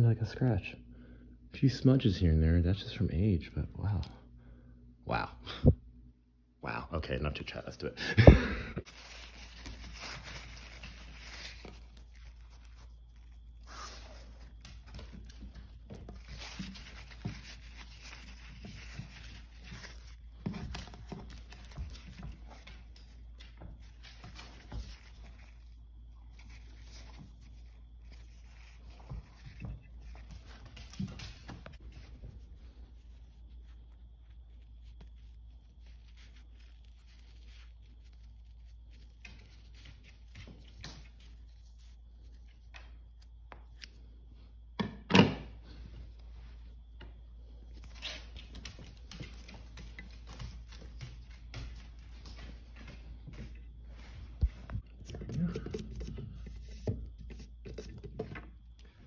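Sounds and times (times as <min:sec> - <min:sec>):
hands rustling and rubbing: 0:08.8 - 0:44.0, 0:45.8 - 0:58.4.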